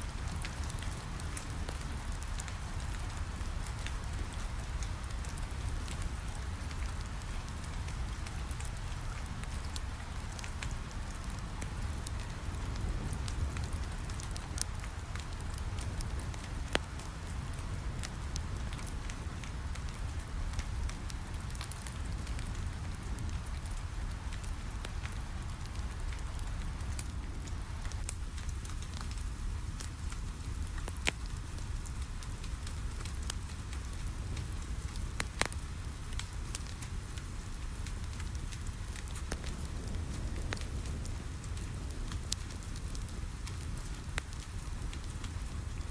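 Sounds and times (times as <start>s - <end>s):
rain on a window: 0.0s - 45.9s
wood fire crackling: 0.0s - 45.9s
sharp pops from fire: 0.1s - 45.9s.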